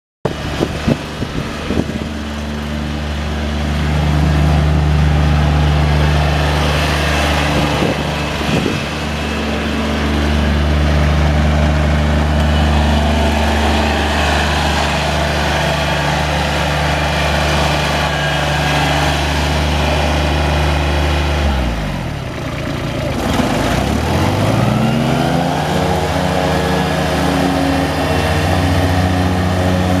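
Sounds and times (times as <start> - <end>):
diesel mower engine running: 0.3 - 30.0.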